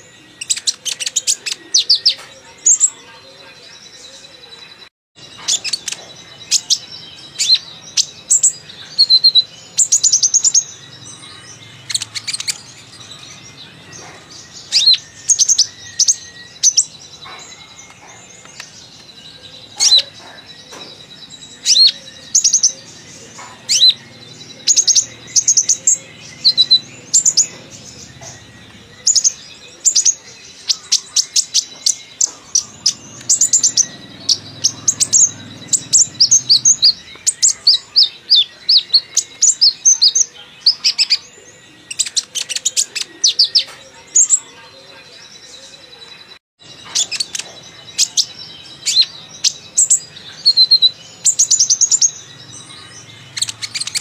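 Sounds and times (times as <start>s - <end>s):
bird chirping and trilling: 0.0s - 54.0s.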